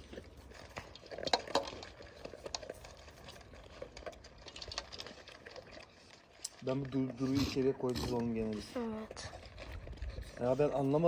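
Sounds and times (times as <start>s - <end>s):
dog eating from metal bowl: 0.0s - 11.0s.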